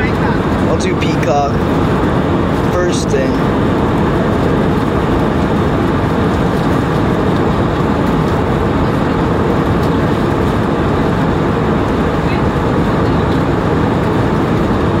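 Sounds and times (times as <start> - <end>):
airplane cabin noise: 0.0 - 15.0.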